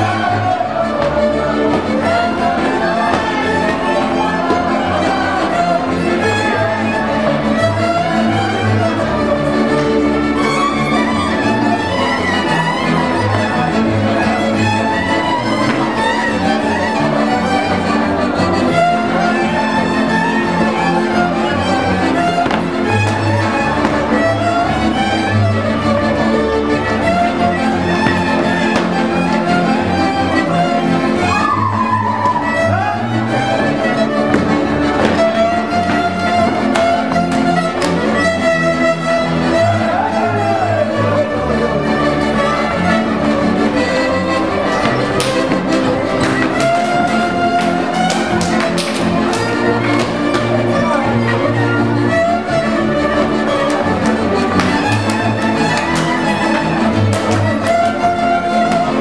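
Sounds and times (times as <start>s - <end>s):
accordion: 0.0s - 59.0s
double bass pulsing: 0.0s - 59.0s
fiddles bowing melody: 0.0s - 59.0s
viola chords: 0.0s - 59.0s.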